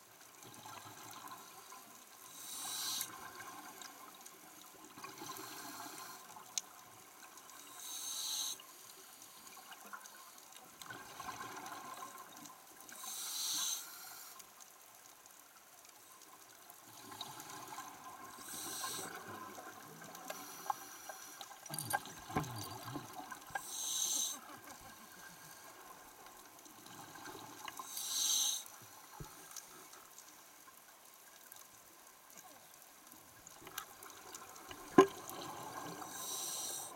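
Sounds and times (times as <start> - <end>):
faint underwater hiss: 0.0 - 36.9.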